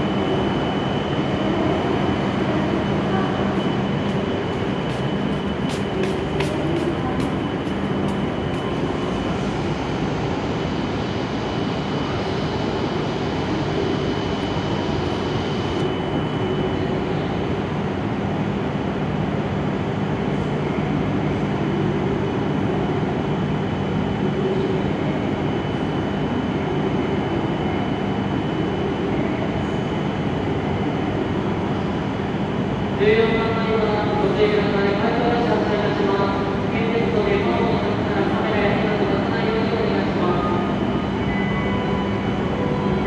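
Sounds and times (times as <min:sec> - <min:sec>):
train equipment hum: 0:00.0 - 0:33.0, 0:33.6 - 0:43.0.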